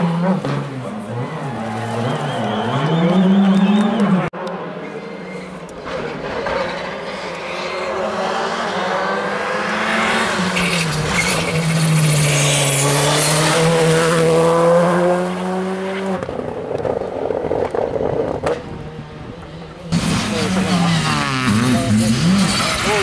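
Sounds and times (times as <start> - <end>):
rally car engine at full pace: 0.0 - 23.0.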